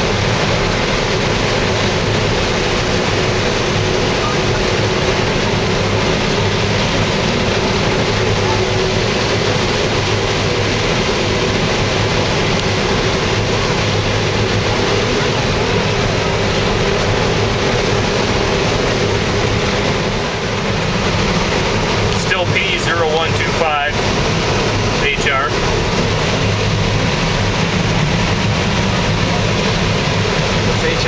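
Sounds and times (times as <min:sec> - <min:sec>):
combine harvester droning: 0:00.0 - 0:31.0.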